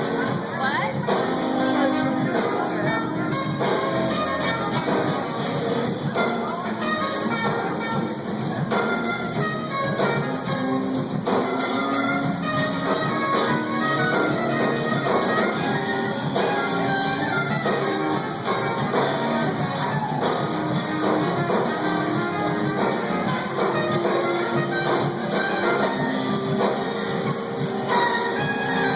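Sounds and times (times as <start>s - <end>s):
brass horn section: 0.0s - 28.9s
live band playing: 0.0s - 28.9s.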